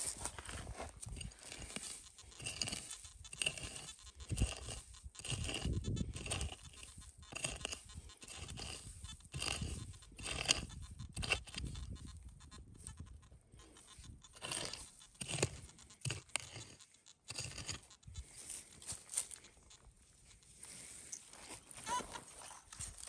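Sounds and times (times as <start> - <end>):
hand pick digging into soil: 0.0 - 19.9, 20.6 - 23.0.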